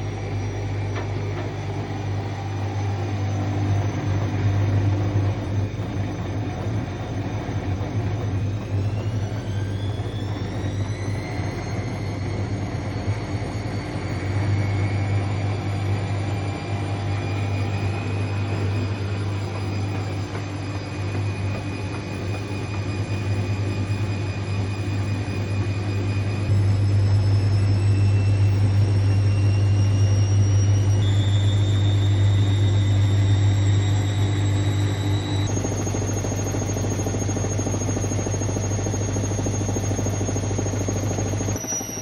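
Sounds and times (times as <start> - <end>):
washing machine spinning: 0.0 - 42.0.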